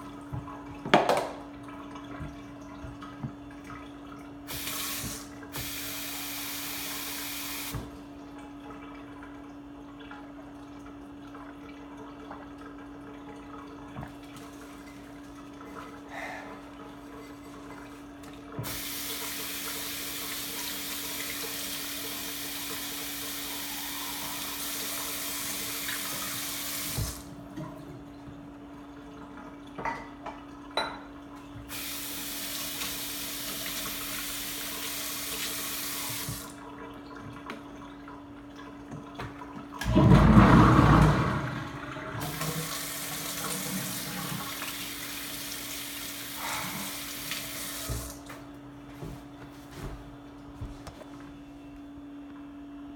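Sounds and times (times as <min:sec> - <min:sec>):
faucet water running: 0:00.0 - 0:48.4.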